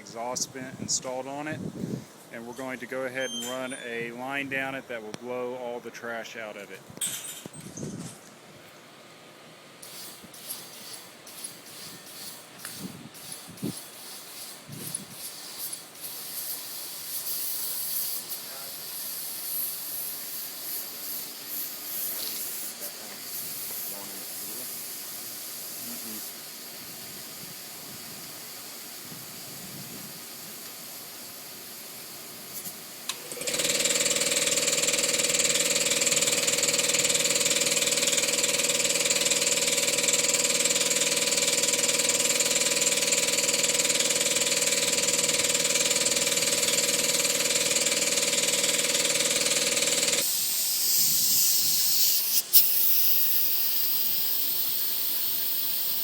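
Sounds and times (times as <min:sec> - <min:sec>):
air hissing: 0:09.8 - 0:56.0.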